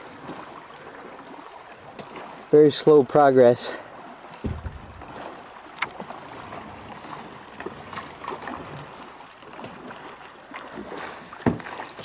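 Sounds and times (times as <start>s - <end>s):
paddle splashes and clicks: 0.0s - 12.0s
river rippling: 0.0s - 12.0s.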